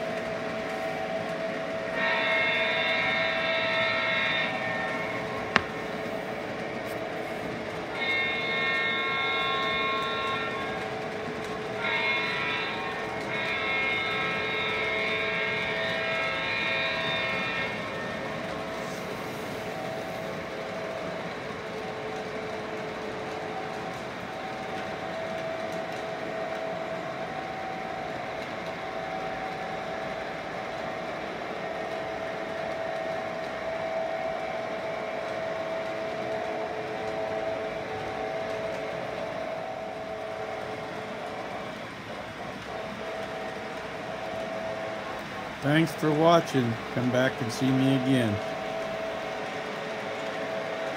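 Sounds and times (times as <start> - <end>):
train horn blast: 0.0 - 21.0, 24.7 - 50.9
model train wheels rumbling: 0.0 - 50.9.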